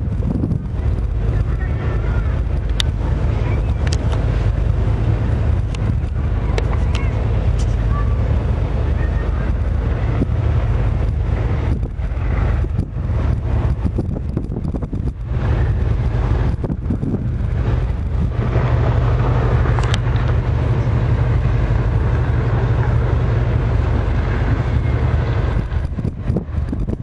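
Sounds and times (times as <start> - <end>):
ship engine humming: 0.0 - 27.0
wind on microphone: 0.0 - 27.0.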